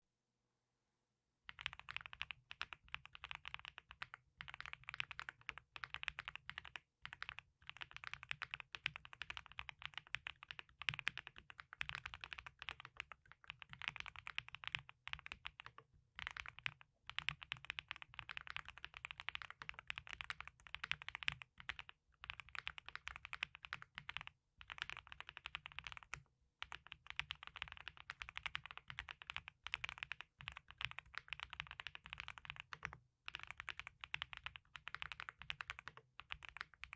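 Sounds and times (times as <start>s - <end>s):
mechanical keyboard typing: 1.5s - 36.9s.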